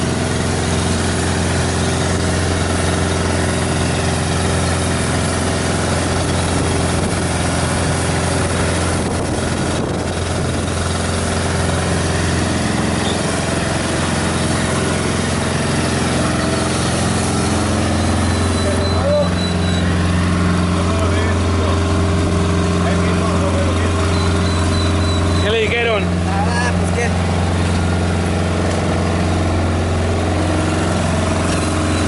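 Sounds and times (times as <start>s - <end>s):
hose spraying water: 0.0s - 32.0s
truck engine idling: 0.0s - 32.0s.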